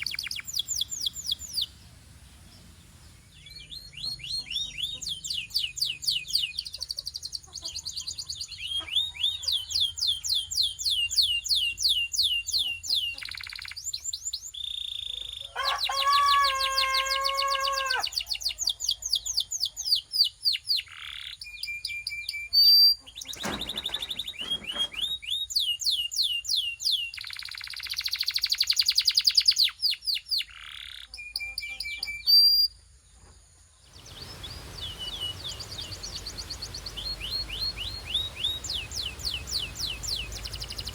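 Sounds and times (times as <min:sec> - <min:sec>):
canary singing trills: 0:00.0 - 0:32.8, 0:33.9 - 0:40.9.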